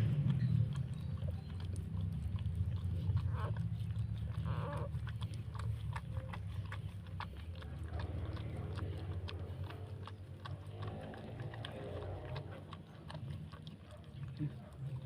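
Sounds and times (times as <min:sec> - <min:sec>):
dog licking and chewing: 0:00.0 - 0:15.0.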